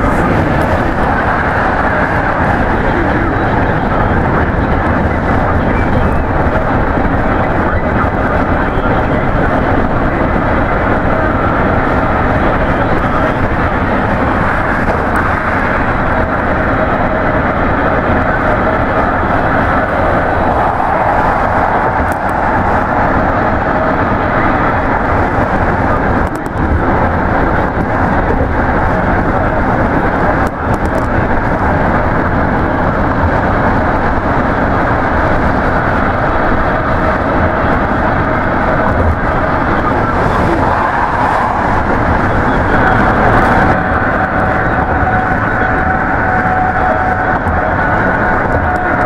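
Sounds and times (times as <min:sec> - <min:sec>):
road and wind noise in car: 0:00.0 - 0:49.0.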